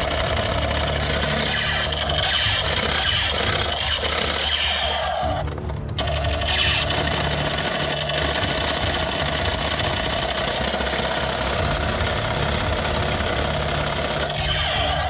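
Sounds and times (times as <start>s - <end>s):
toy gun buzzing rattle: 0.0s - 15.0s.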